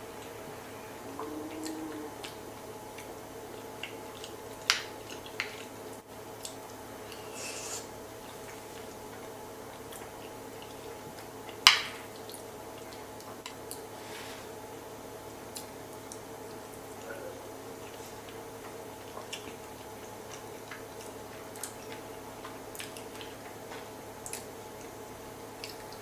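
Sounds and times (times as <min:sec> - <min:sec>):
faint steady hum: 0:00.0 - 0:26.0
close eating clicks and smacks: 0:01.2 - 0:07.3, 0:07.9 - 0:13.9, 0:15.3 - 0:26.0.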